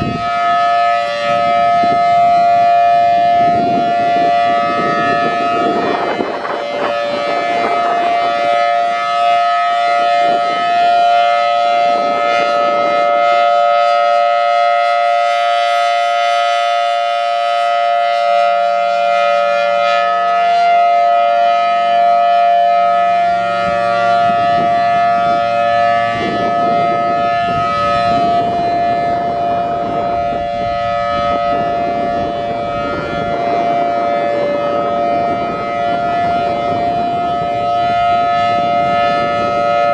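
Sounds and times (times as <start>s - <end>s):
warning siren steady tone: 0.0s - 39.9s
wind rumble on microphone: 0.0s - 39.9s.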